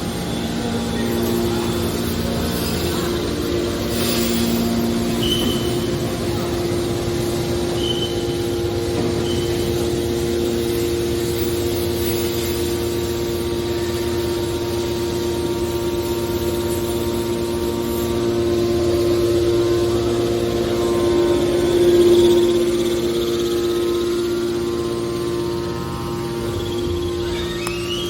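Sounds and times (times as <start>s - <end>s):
baler machinery droning: 0.0s - 28.0s.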